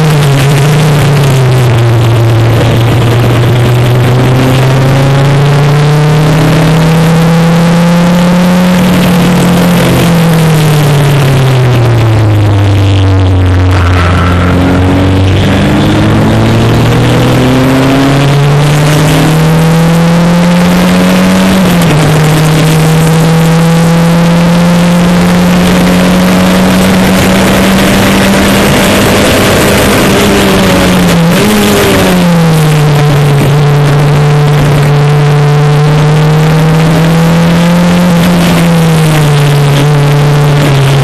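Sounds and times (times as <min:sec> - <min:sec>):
racing car engine accelerating: 0:00.0 - 0:41.0.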